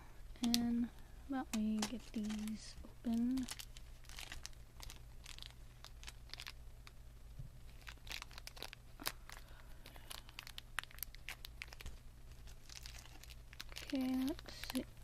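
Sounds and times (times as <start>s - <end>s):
steady low hum: 0.0s - 15.0s
plastic packets crinkling and tearing: 0.4s - 7.0s, 7.6s - 15.0s.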